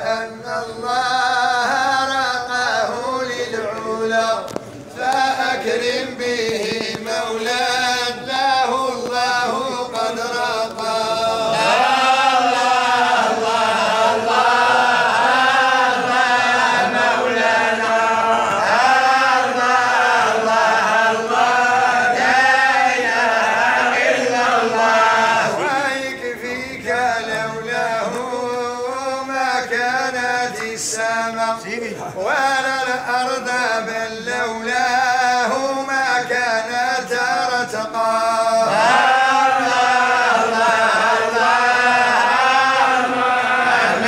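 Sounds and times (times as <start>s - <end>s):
men chanting together: 0.0s - 44.0s.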